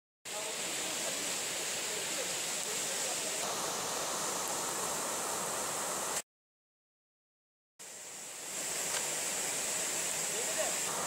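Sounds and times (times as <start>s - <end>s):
creek and waterfall rushing: 0.3s - 6.2s, 7.8s - 11.0s.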